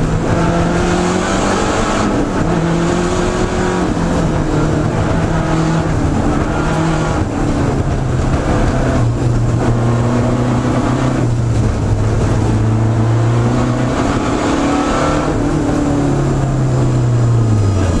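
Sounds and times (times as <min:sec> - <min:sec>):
rally car engine from inside cabin: 0:00.0 - 0:18.0.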